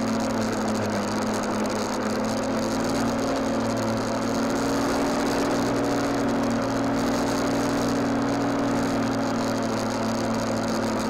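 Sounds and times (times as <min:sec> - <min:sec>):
lawnmower cutting grass: 0:00.0 - 0:11.0.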